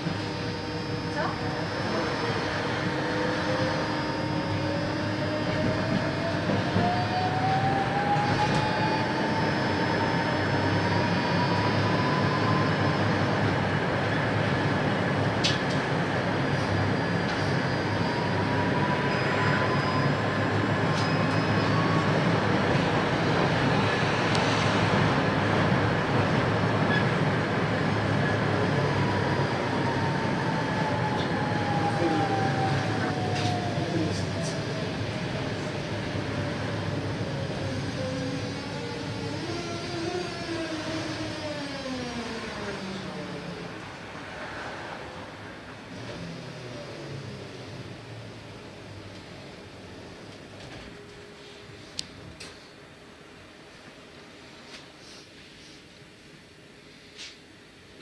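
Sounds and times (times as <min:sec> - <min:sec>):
electric traction whine: 0:00.0 - 0:51.2
tram rumble: 0:00.0 - 0:58.0.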